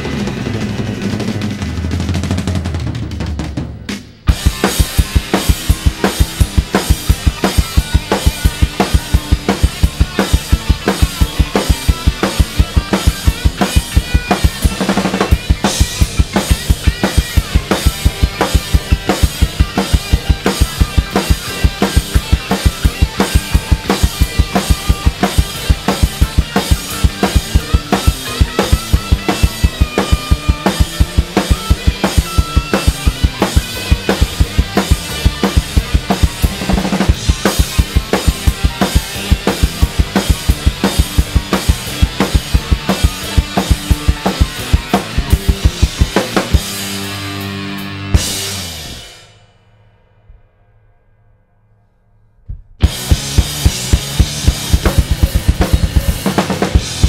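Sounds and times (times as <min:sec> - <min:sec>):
acoustic drum kit played hard: 0:00.0 - 0:49.4, 0:52.5 - 0:57.0
rock backing track: 0:00.0 - 0:50.5, 0:52.5 - 0:57.0.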